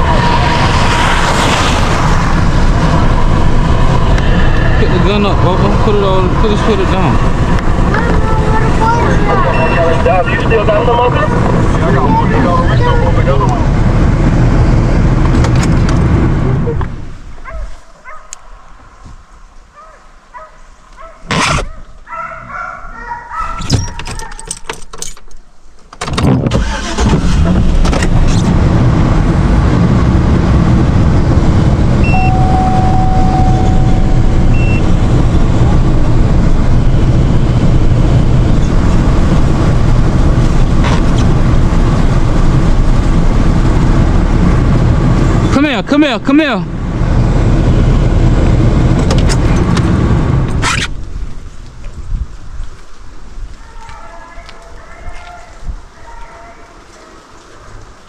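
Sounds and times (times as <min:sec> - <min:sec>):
vehicle road and engine noise: 0:00.0 - 0:56.1.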